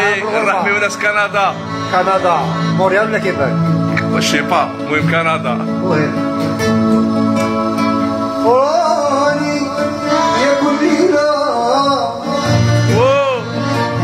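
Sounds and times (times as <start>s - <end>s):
acoustic guitar: 0.0s - 14.0s
man singing with vibrato: 0.0s - 14.0s.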